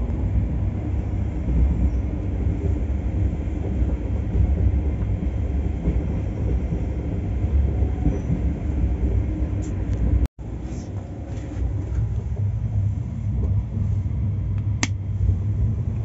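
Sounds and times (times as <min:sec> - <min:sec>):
train coach wheels rumbling: 0:00.0 - 0:16.0.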